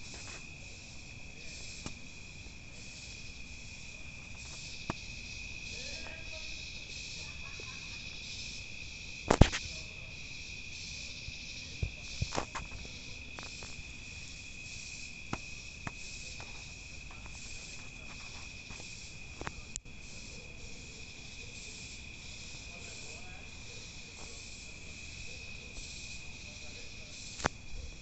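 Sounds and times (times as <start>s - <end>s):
insect chorus trilling: 0.0s - 28.0s.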